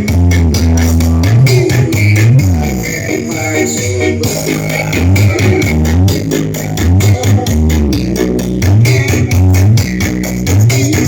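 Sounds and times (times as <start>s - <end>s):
electronic dance music with heavy bass: 0.0s - 11.0s.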